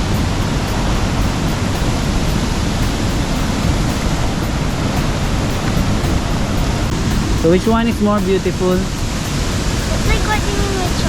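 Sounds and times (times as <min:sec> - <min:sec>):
waterfalls rushing: 0:00.0 - 0:11.0.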